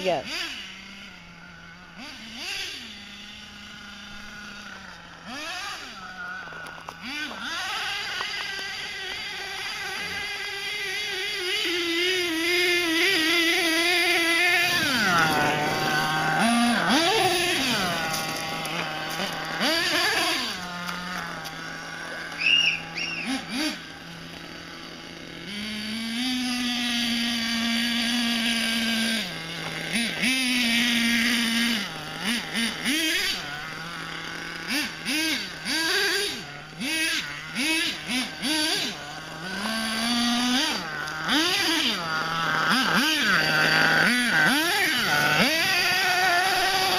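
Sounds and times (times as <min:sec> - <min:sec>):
small engine revving: 0:00.0 - 0:46.9.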